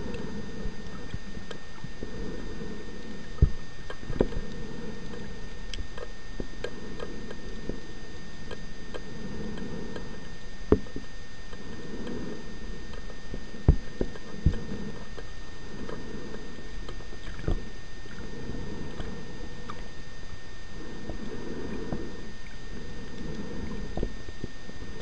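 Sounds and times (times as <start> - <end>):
steady low underwater rush: 0.0 - 25.0.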